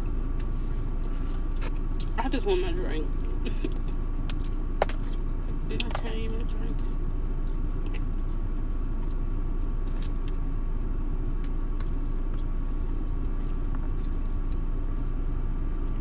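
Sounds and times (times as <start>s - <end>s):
car idling rumble: 0.0s - 16.0s
faint steady hum: 0.0s - 16.0s.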